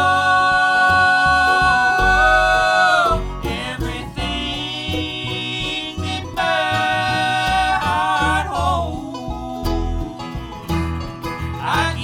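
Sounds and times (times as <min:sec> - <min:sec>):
acoustic guitar: 0:00.0 - 0:12.0
banjo: 0:00.0 - 0:12.0.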